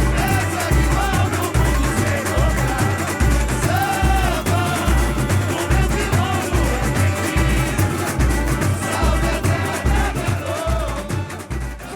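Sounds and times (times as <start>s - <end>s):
dense percussion: 0.0s - 11.9s
person singing melody: 0.0s - 11.9s.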